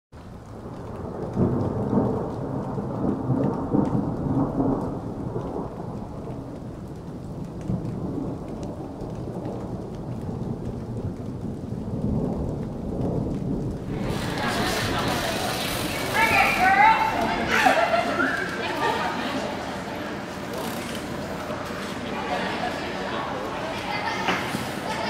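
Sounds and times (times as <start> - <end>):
steady rain: 0.1 - 25.0
thunder rumbling: 0.2 - 20.7.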